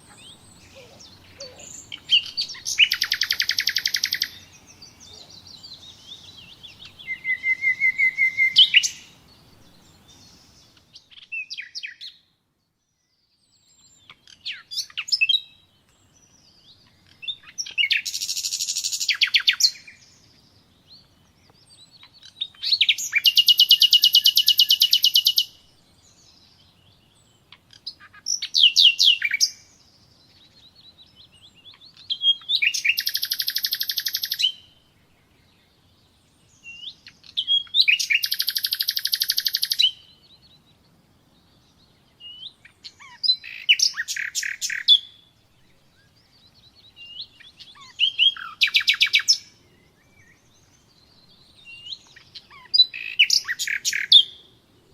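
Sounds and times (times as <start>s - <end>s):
nightingale singing: 0.0s - 54.9s.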